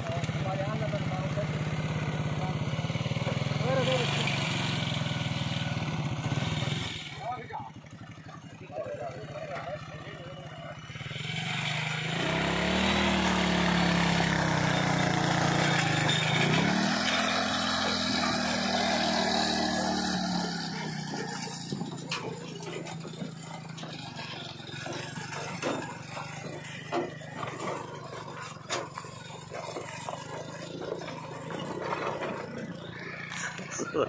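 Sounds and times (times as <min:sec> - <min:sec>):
vehicle engine accelerating: 0:00.0 - 0:07.4, 0:08.0 - 0:34.0.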